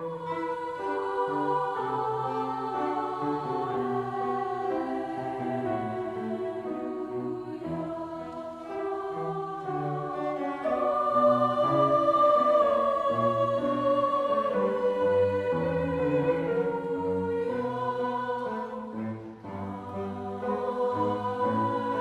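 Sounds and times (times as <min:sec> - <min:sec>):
choir singing in parts: 0:00.0 - 0:22.0.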